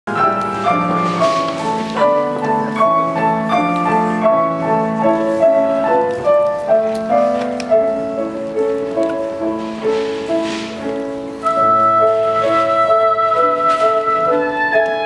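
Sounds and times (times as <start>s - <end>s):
piano melody: 0.1s - 15.0s.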